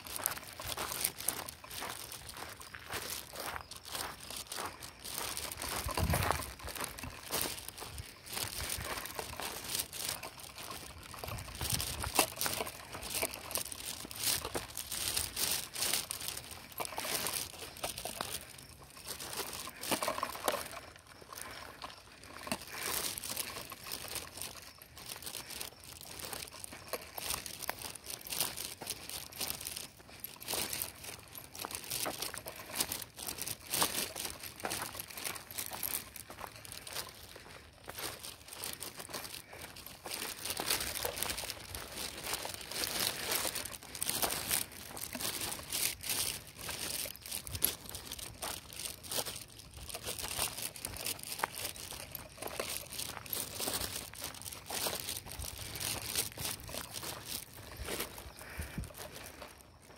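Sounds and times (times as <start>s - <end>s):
footsteps crunching on dry path: 0.0s - 59.9s.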